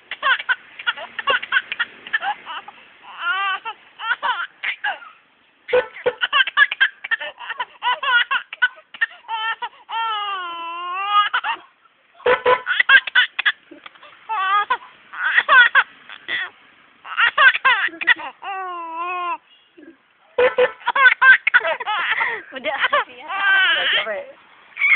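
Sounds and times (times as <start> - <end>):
baby giggling: 0.1 - 5.1, 5.7 - 11.7, 12.5 - 16.5, 17.1 - 24.1.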